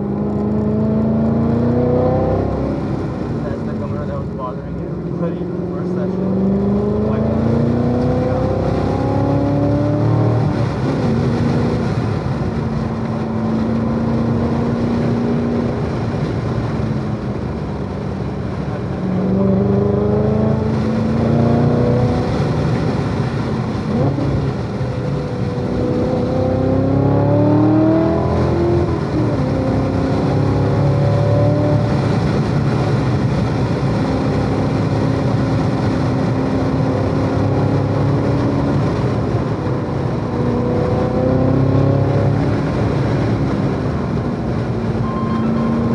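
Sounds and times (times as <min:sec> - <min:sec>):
sports car engine accelerating: 0:00.0 - 0:45.9.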